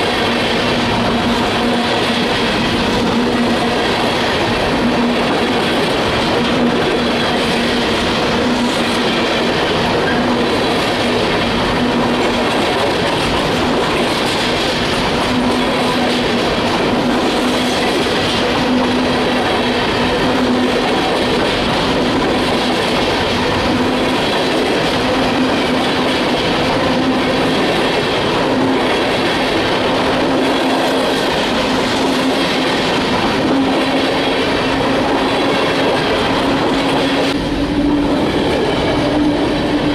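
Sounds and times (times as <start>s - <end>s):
train wheels clattering on rail: 0.0s - 39.9s.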